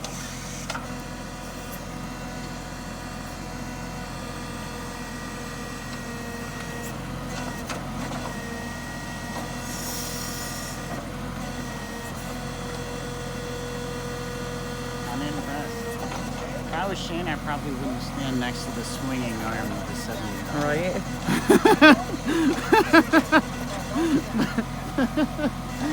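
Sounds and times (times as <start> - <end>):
excavator engine running: 0.0 - 25.9.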